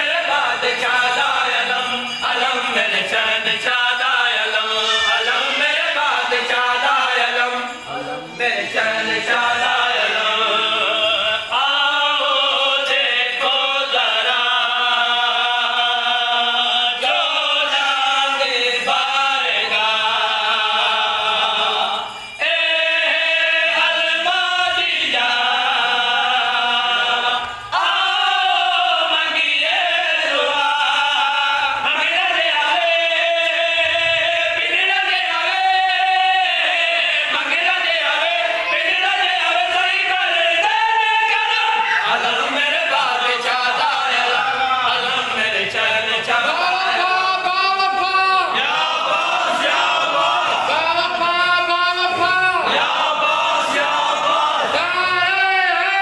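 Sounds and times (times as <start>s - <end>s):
men singing unaccompanied: 0.0s - 56.0s.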